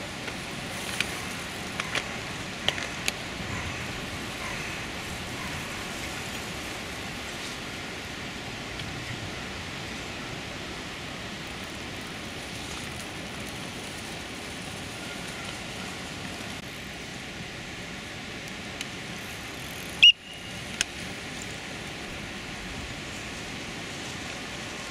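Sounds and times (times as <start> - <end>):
outdoor background hiss: 0.0 - 24.9.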